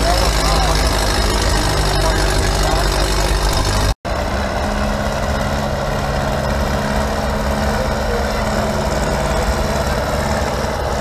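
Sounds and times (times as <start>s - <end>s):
tractor engine humming: 0.0s - 11.0s.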